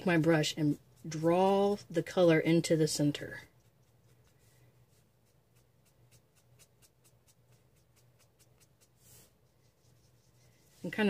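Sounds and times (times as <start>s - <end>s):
low steady hum: 0.0s - 11.0s
paintbrush strokes on paper: 0.0s - 11.0s.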